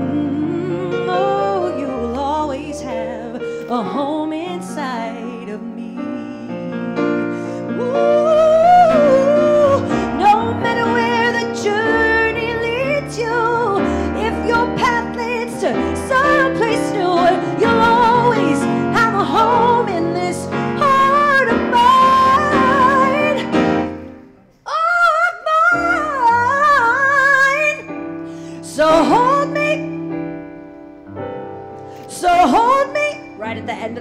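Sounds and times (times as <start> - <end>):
woman singing a slow ballad: 0.0 - 23.6, 24.7 - 27.9, 28.6 - 30.0, 32.0 - 34.0
keyboard accompaniment: 0.0 - 24.6, 25.4 - 34.0.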